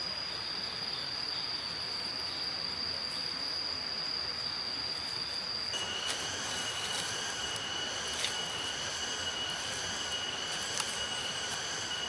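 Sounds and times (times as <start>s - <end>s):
cricket trilling: 0.0s - 12.0s
forest ambience hiss: 0.0s - 12.0s
lower insect tone: 0.0s - 12.0s.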